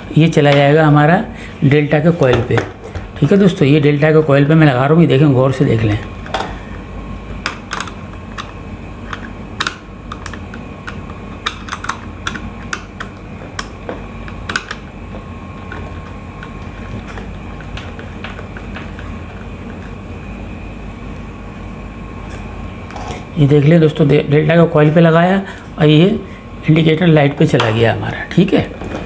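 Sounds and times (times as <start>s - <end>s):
background hum: 0.0s - 29.0s.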